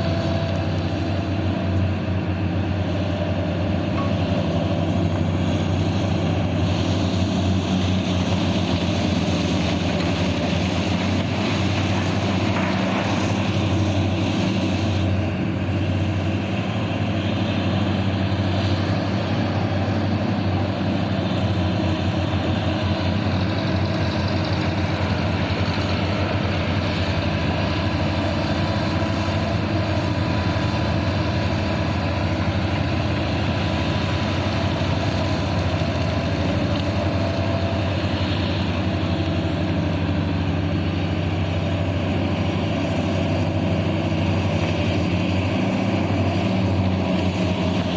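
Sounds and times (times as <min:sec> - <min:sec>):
heavy machine engine humming: 0:00.0 - 0:47.9.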